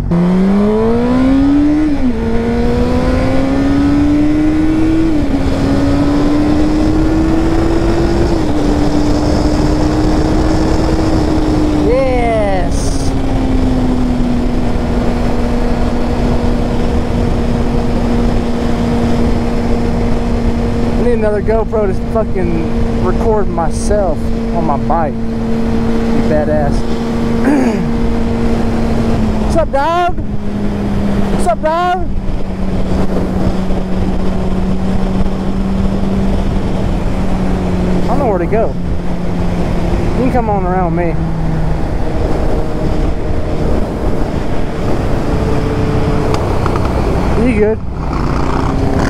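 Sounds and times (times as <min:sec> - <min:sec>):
motorcycle engine cruising: 0:00.0 - 0:49.0
wind and road noise: 0:00.0 - 0:49.0.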